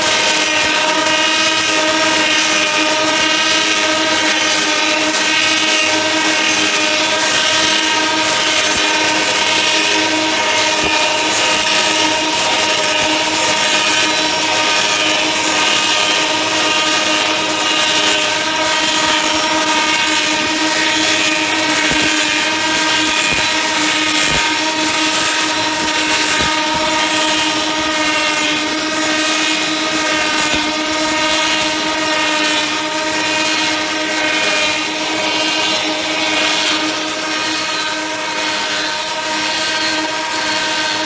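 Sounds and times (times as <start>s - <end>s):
lathe machine whining: 0.0s - 41.0s.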